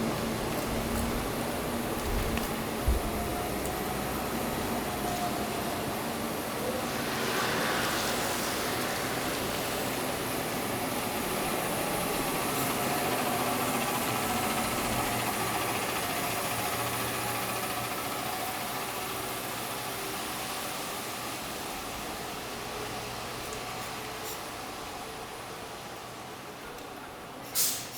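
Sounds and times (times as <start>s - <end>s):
vehicle engine humming: 0.0s - 23.6s
street noise: 0.0s - 27.9s.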